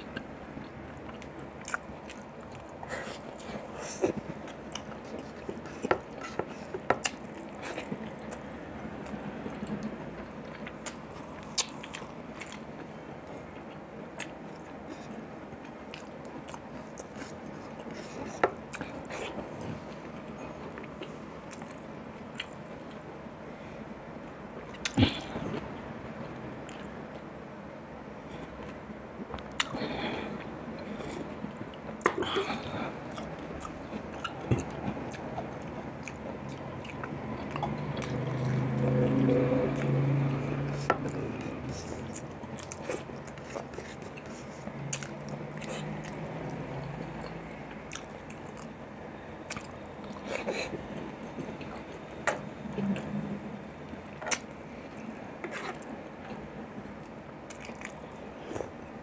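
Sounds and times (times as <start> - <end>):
man chewing: 0.0 - 23.0, 24.3 - 27.3, 28.3 - 59.0.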